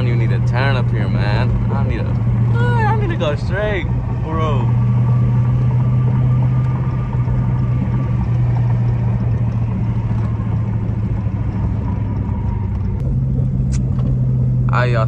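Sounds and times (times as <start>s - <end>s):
car engine cruising drone: 0.0s - 15.0s.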